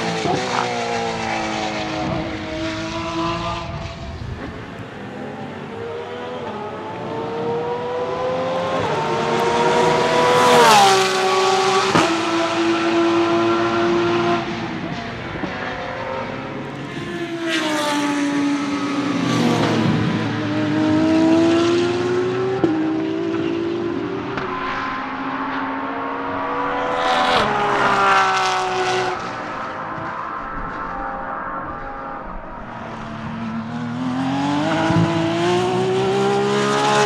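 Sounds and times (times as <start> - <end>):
racing car engines at full throttle: 0.0 - 37.0.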